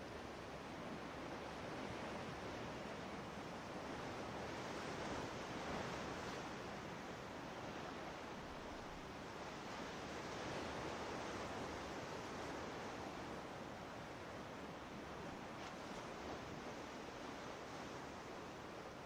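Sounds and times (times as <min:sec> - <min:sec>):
ocean waves on rocky shore: 0:01.2 - 0:19.0.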